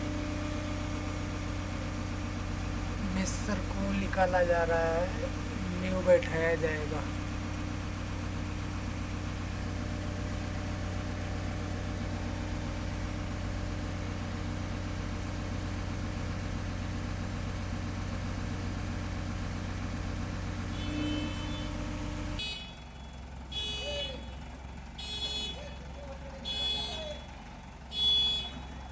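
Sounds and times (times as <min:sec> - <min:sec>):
heavy machine engine running: 0:00.0 - 0:23.6.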